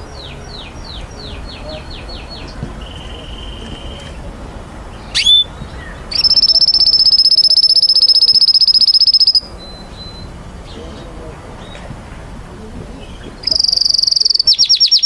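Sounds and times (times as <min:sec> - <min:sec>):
canary singing: 0:00.0 - 0:04.3, 0:04.9 - 0:11.8, 0:13.0 - 0:15.0.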